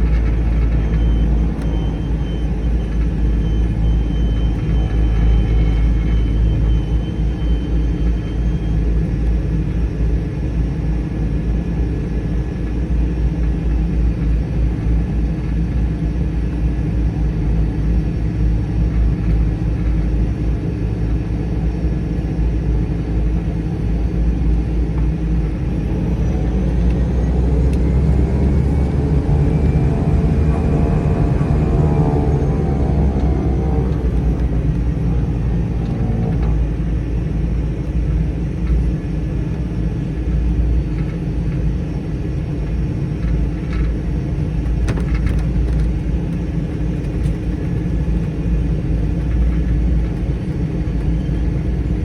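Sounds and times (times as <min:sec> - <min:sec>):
turboprop engine rumbling: 0:00.0 - 0:52.0.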